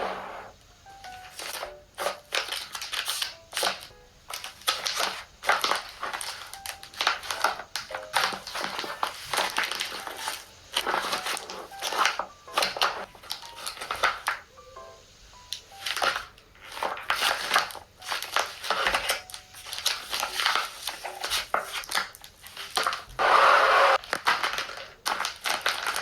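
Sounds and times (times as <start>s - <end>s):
crushing and crinkling: 1.1s - 14.5s, 15.5s - 26.0s.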